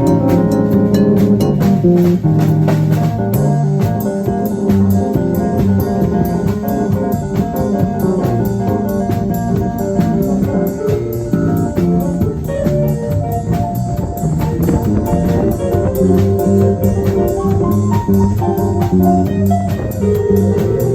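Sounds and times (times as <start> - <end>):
band playing jazz rock: 0.0 - 20.9
steady drum beat: 0.0 - 20.9.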